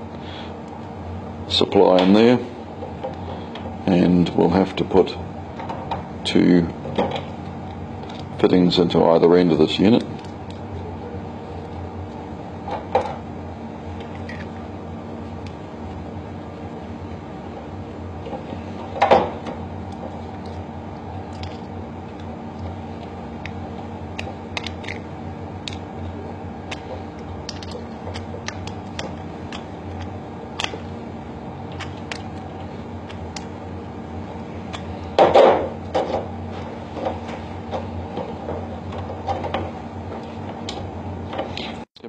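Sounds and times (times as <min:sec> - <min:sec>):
steady background hum: 0:00.0 - 0:42.0.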